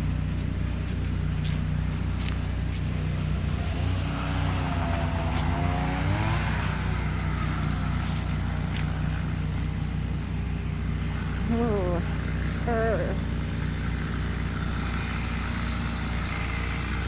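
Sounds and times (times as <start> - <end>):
engine rising and falling in pitch: 0.0 - 17.0
low engine hum: 0.0 - 17.0.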